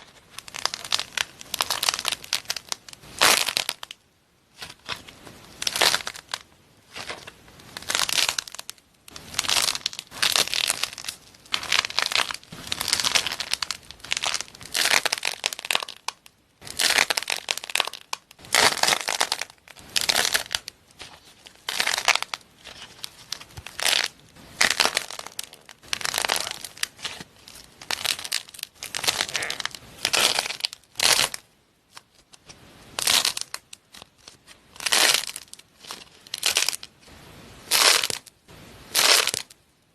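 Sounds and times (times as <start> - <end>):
slime squeezed and crackling: 0.0 - 4.0, 4.6 - 32.2, 32.9 - 37.0, 37.6 - 39.6.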